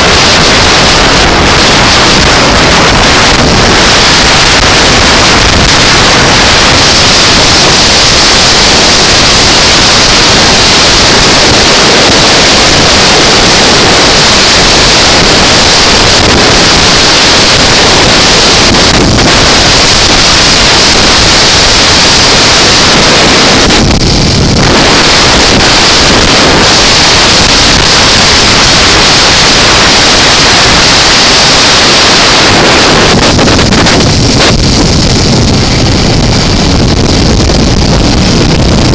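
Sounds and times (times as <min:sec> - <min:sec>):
motorcycle engine running: 0:00.0 - 0:38.9
road noise: 0:00.0 - 0:38.9
wind buffeting microphone: 0:00.0 - 0:38.9.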